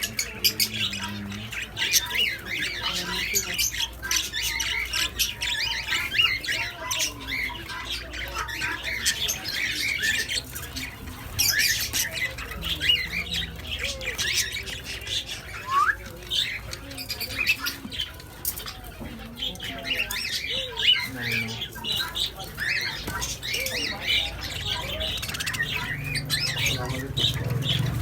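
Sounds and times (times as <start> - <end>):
doves squeaking and squawking: 0.0 - 28.0.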